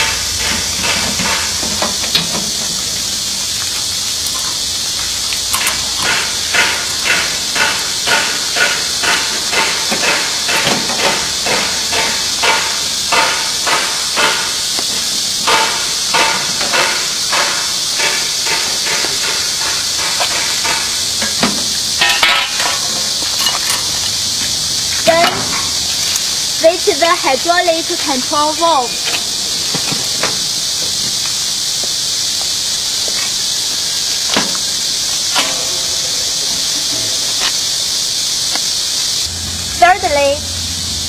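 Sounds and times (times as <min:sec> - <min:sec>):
steady loud hiss: 0:00.0 - 0:41.0.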